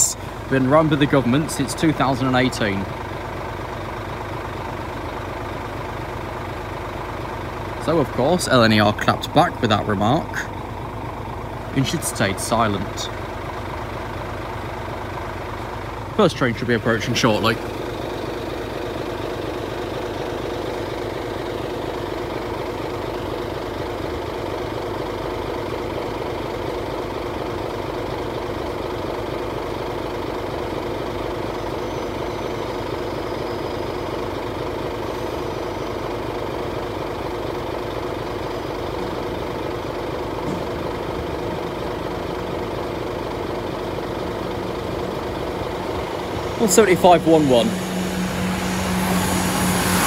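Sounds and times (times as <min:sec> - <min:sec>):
idling engine drone: 0:00.0 - 0:50.0.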